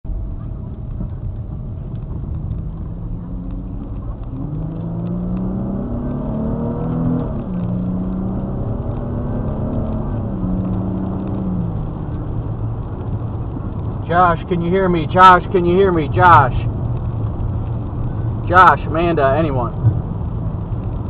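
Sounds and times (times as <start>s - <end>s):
tyres rumbling on wet road: 0.0s - 21.0s
car engine accelerating: 0.1s - 21.0s.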